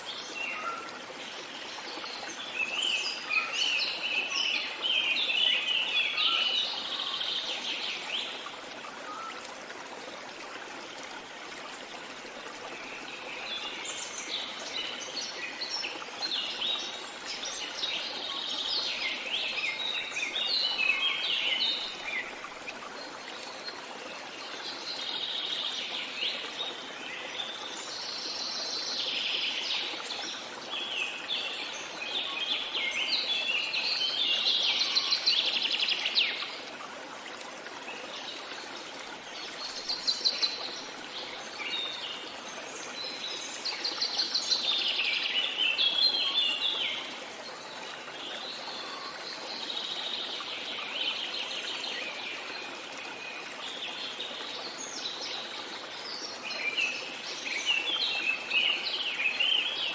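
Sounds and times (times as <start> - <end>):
flowing water hiss: 0.0 - 59.9.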